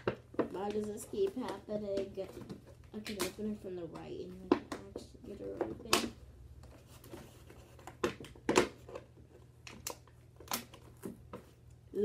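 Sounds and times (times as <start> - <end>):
cardboard and plastic packaging rustling: 0.0 - 11.8.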